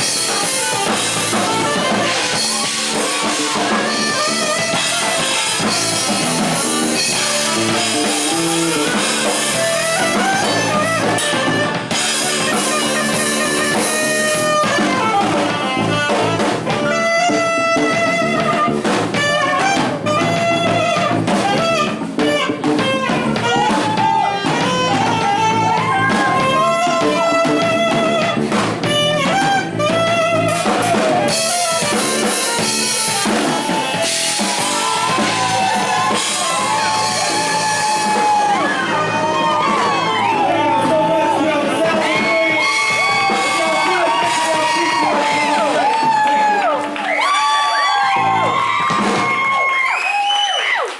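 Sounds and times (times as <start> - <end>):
electric guitar lead: 0.0 - 49.4
drum kit beat: 0.0 - 49.8.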